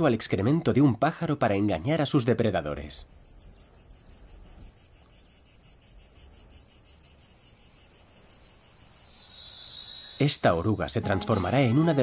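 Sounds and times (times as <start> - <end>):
cricket chirring: 0.0 - 12.0.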